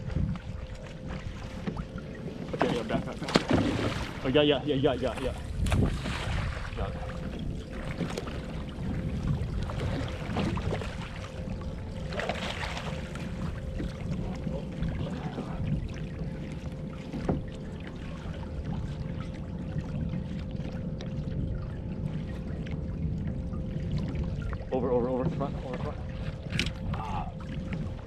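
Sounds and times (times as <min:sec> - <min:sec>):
water splashing around a kayak: 0:00.0 - 0:28.0
wind rumbling on microphone: 0:00.0 - 0:28.0.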